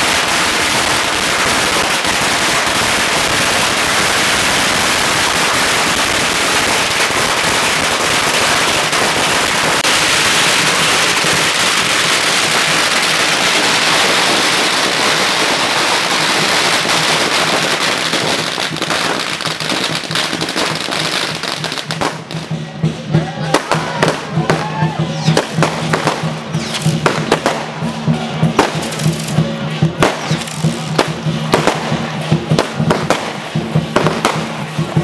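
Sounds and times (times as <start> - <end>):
firecrackers crackling and banging: 0.0 - 35.0.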